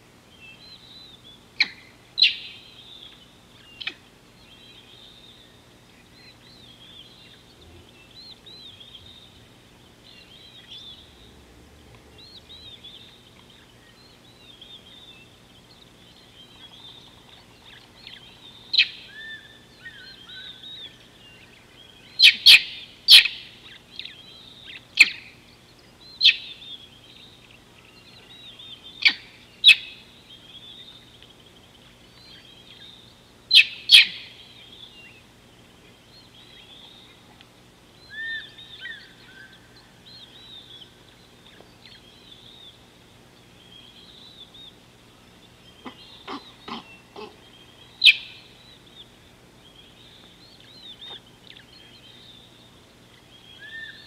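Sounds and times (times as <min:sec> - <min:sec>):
small birds chattering: 0:00.3 - 0:54.0
loud sharp bird calls: 0:00.5 - 0:37.3, 0:38.0 - 0:54.0.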